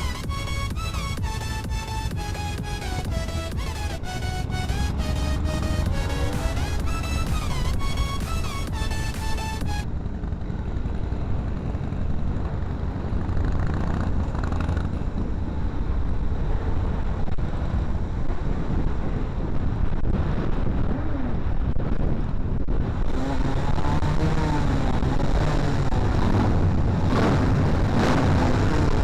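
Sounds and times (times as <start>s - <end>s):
motorcycle engine rumble: 0.0s - 29.0s.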